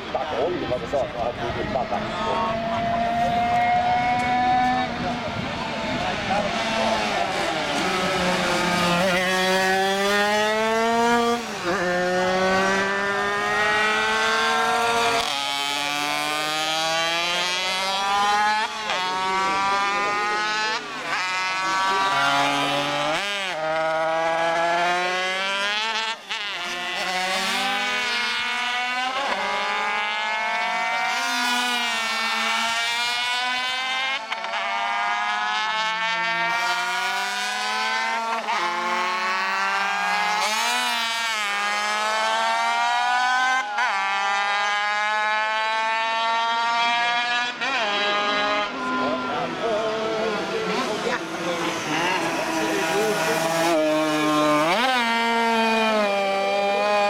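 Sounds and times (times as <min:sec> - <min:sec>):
racing motorcycles at full throttle: 0:00.0 - 0:57.0.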